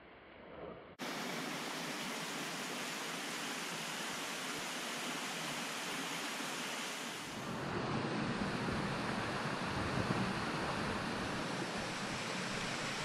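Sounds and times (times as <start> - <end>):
waterfall and stream rushing: 1.0 - 13.0.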